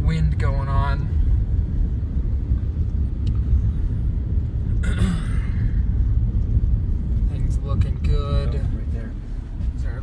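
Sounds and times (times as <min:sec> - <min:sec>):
car interior rumble: 0:00.0 - 0:10.0.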